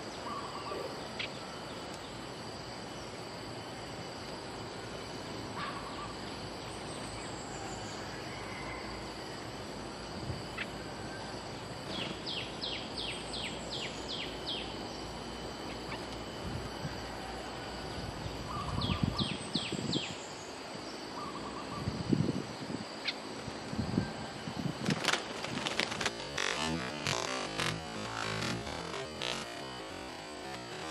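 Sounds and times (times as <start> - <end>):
background hiss: 0.0 - 30.9.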